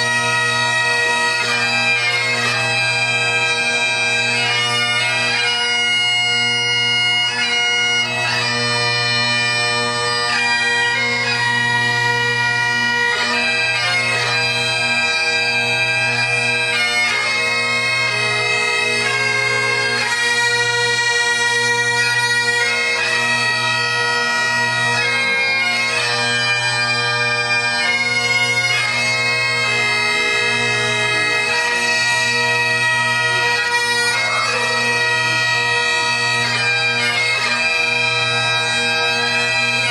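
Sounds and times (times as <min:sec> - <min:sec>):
bagpipe drones: 0:00.0 - 0:39.9
bagpipe melody: 0:00.0 - 0:39.9.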